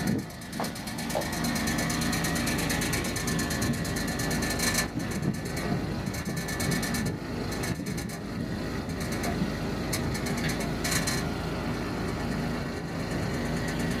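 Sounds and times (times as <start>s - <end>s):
rapid rattling clicks: 0.0s - 11.3s
van engine idling: 0.0s - 14.0s.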